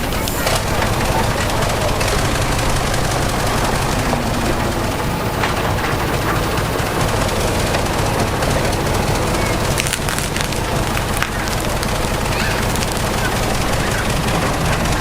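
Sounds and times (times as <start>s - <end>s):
fast even rattle: 0.0s - 15.0s
heavy diesel engine running hard: 0.0s - 15.0s.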